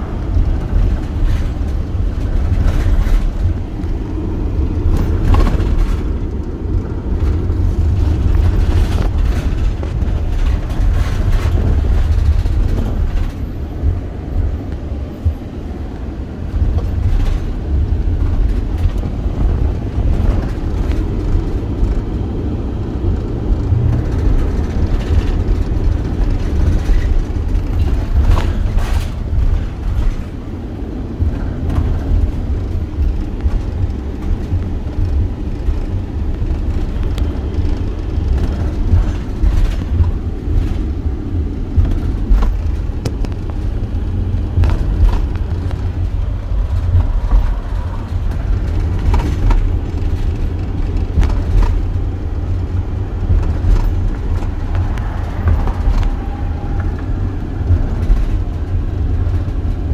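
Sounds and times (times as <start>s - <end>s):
car road rumble: 0.0s - 59.9s
knocks and rattles: 0.0s - 59.9s.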